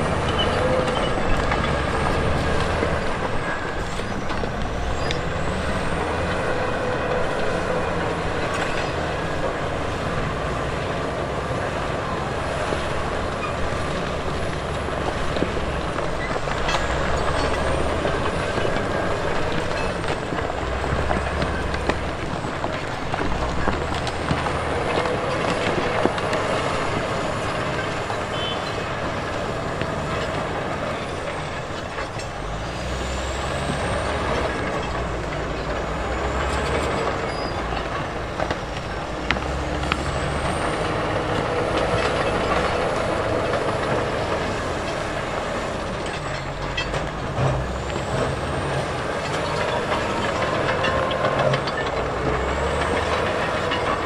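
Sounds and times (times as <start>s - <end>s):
diesel machinery engine running: 0.0s - 54.0s
machinery knocks and clanks: 0.0s - 54.0s.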